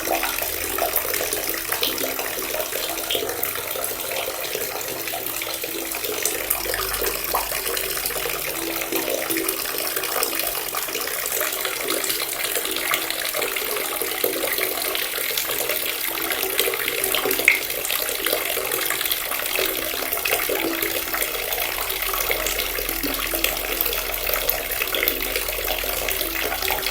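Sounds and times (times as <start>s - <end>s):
water running from a tap: 0.0s - 26.9s.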